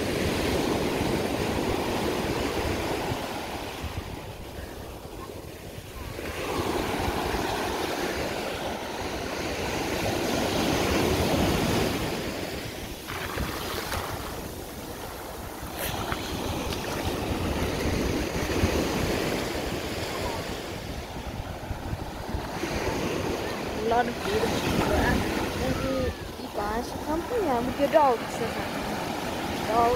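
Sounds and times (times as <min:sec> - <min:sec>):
small waves breaking on sand: 0:00.0 - 0:29.9
wind on microphone: 0:00.0 - 0:29.9.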